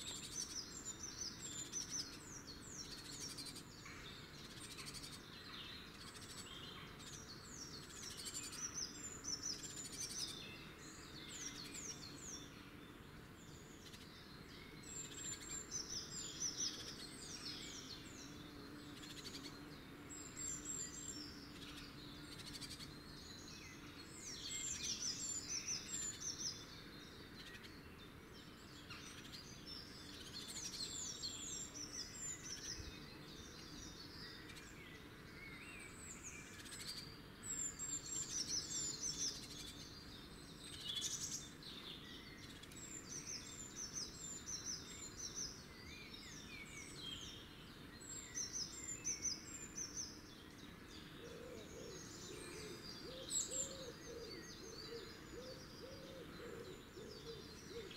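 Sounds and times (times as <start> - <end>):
songbirds singing: 0.0 - 57.9
steady outdoor hiss: 0.0 - 57.9.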